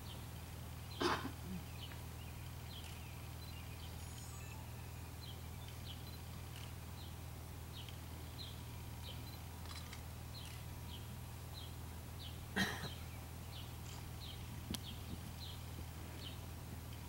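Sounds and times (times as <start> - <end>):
steady low hum: 0.0 - 17.0
small bird chirping: 0.8 - 15.6.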